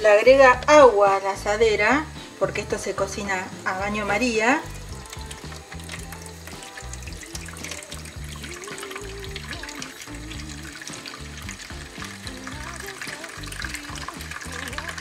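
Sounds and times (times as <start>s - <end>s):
background music: 0.0s - 15.0s
water pouring into a pan: 0.0s - 15.0s.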